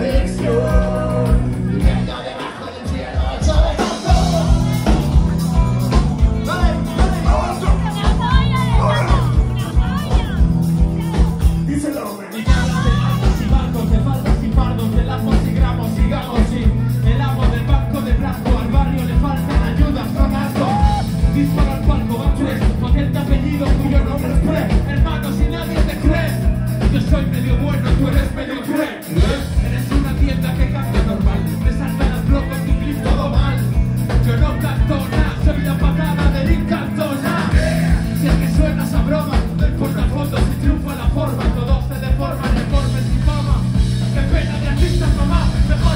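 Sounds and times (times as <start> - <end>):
person singing: 0.0 - 10.4, 11.7 - 45.9
live rock band playing: 0.0 - 45.9.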